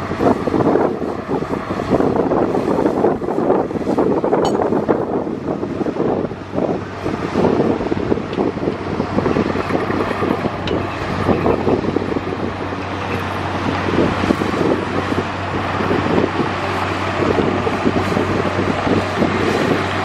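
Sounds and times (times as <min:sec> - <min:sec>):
heavy machinery diesel engine: 0:00.0 - 0:20.0
wind buffeting microphone: 0:00.0 - 0:20.0.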